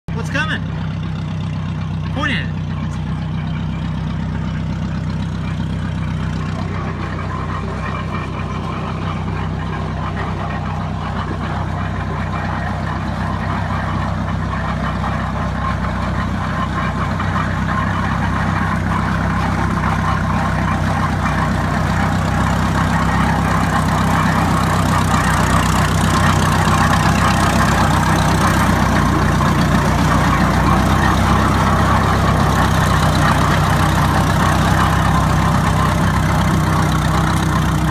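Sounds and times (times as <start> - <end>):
old tractor engines running: 0.1 - 37.9.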